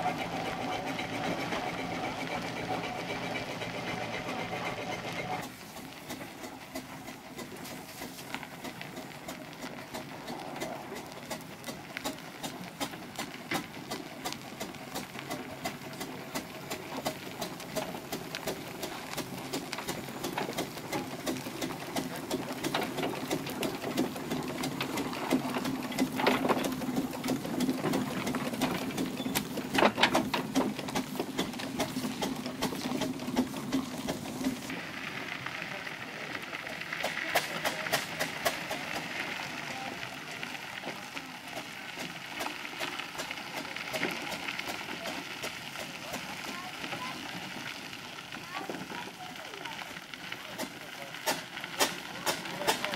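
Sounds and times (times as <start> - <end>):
steam traction engine clatter: 0.0 - 52.9.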